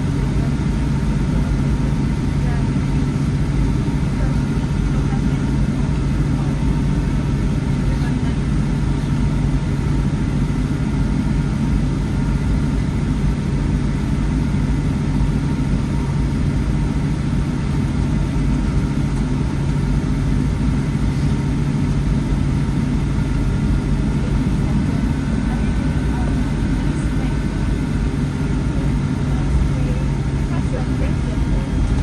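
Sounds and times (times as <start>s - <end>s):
airliner cabin drone: 0.0s - 32.0s.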